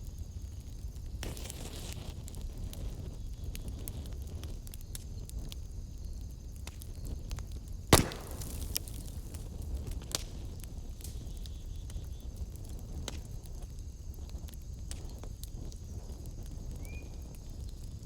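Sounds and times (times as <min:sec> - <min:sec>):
fire popping: 0:00.0 - 0:18.0
wood fire crackling: 0:00.0 - 0:18.0.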